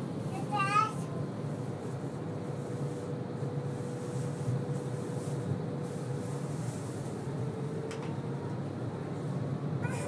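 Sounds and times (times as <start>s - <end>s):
faint motor whine: 0.0s - 10.0s
tram rumbling: 0.0s - 10.0s.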